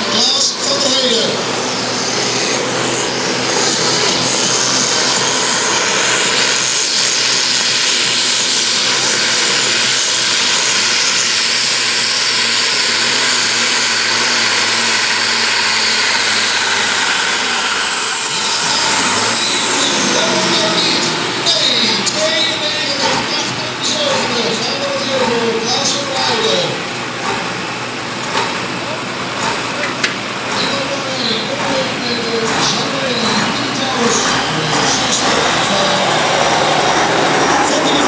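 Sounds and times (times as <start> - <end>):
high engine whine: 0.0 - 38.0
tractor engine at full throttle: 0.0 - 38.0.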